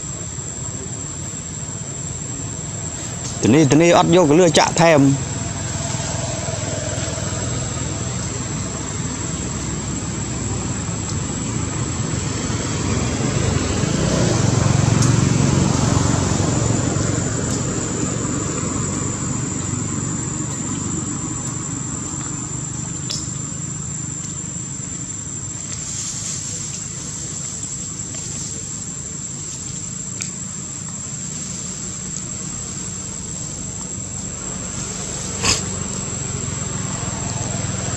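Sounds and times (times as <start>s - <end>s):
background hiss: 0.0s - 37.9s
high-pitched insect drone: 0.0s - 37.9s
low rumble of passing vehicle: 0.0s - 37.9s.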